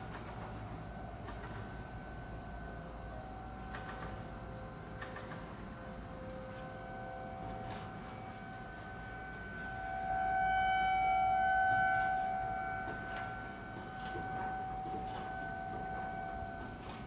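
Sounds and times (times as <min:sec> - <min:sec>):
warning siren steady tone: 0:00.0 - 0:17.0.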